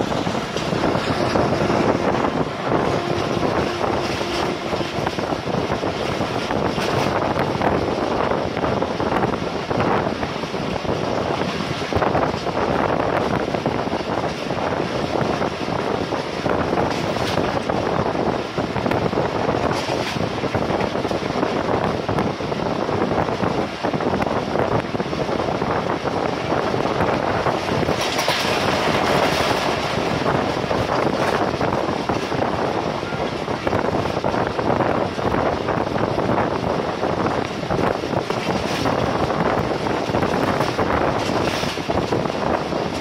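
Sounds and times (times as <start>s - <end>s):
wheel and rail noise: 0.0s - 43.0s
wind on microphone: 0.0s - 43.0s.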